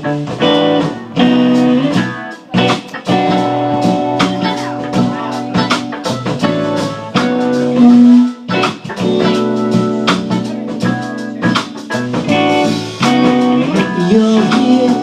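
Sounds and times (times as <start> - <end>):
band playing instrumental music: 0.0 - 15.0.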